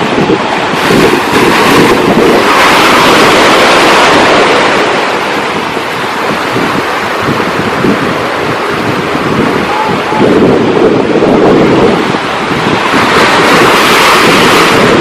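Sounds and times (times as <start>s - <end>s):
ocean wave rushing: 0.0s - 15.0s
wind buffeting microphone: 0.0s - 15.0s.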